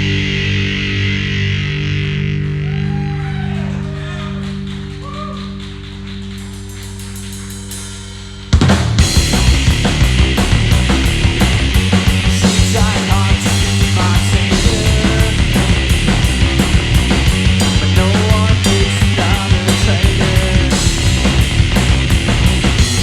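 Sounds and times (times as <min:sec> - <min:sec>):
bass guitar: 0:00.0 - 0:23.0
electric guitar: 0:00.0 - 0:23.0
drum kit: 0:04.5 - 0:23.0.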